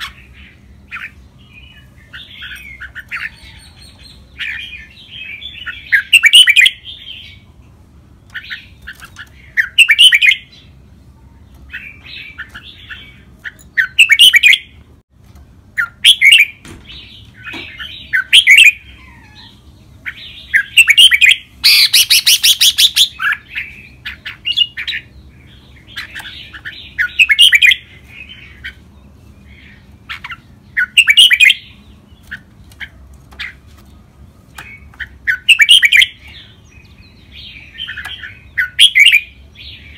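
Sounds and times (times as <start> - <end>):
bird singing warbling phrases: 0.0 - 14.8, 15.7 - 39.9.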